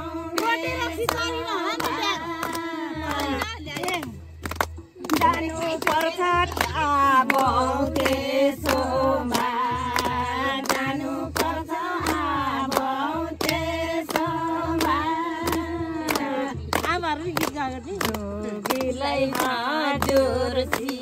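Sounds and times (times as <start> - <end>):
group singing in unison: 0.0 - 4.1, 5.0 - 21.0
hand-clapping: 0.0 - 21.0.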